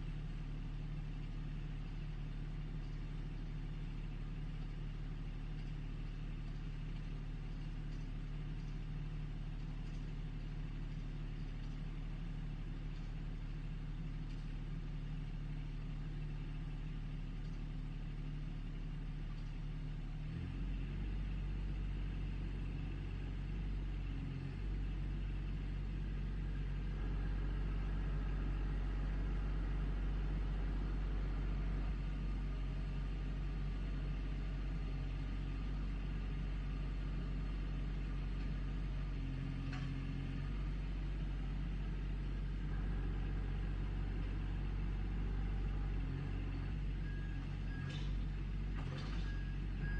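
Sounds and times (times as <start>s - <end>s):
backhoe engine running: 0.0s - 49.9s.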